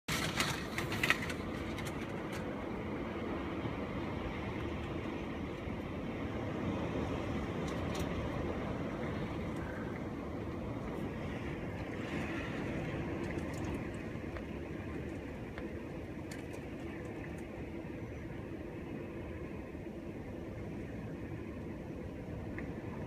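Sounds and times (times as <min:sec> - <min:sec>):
wind blowing across microphone: 0:00.1 - 0:23.0.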